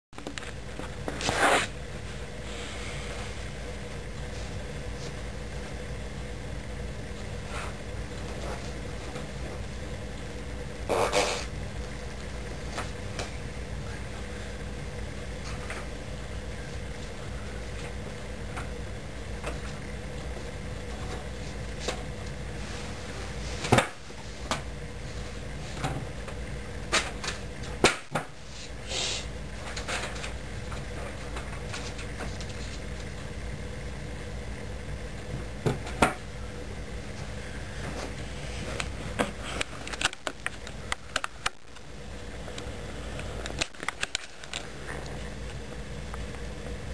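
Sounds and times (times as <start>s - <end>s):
low hum and hiss: 0.2s - 46.9s.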